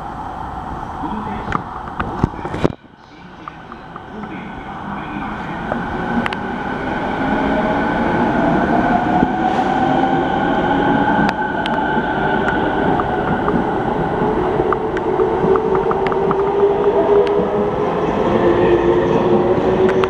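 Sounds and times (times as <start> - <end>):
electric train passing: 3.0 - 20.0.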